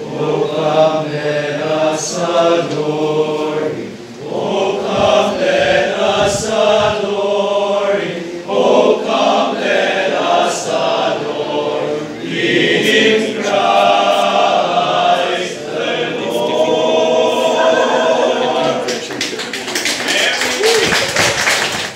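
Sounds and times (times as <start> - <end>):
male choir singing a carol: 0.0 - 20.4.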